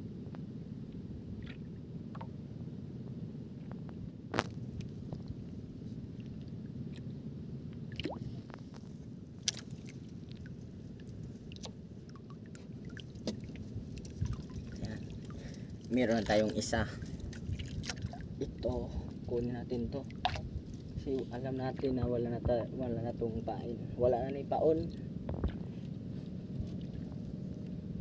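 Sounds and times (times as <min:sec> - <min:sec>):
low rumble of sea: 0:00.0 - 0:28.0.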